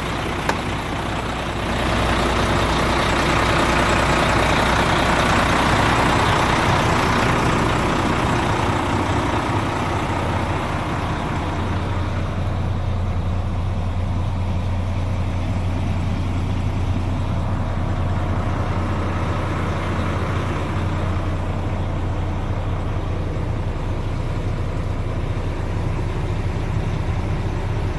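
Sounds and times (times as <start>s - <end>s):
diesel truck engine idling: 0.0s - 27.9s.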